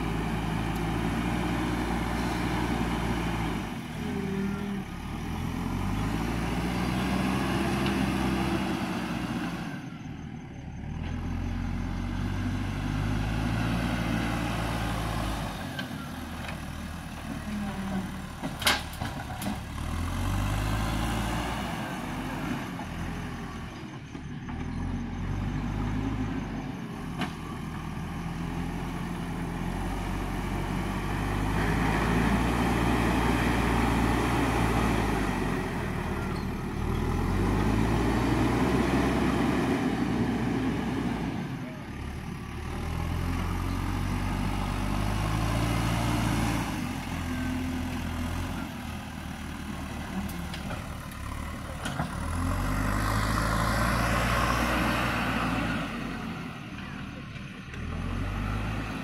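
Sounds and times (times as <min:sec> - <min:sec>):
diesel engine revving under load: 0:00.0 - 0:59.0.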